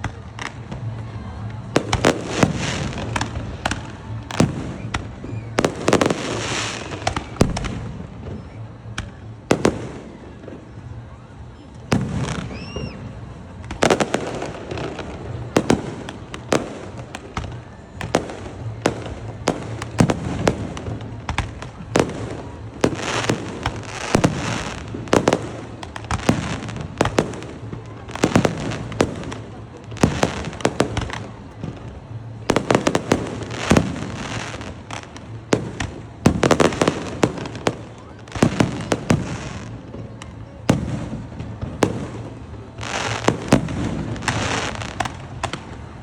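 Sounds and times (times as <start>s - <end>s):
fireworks bursting: 0.0s - 11.1s, 11.8s - 46.0s.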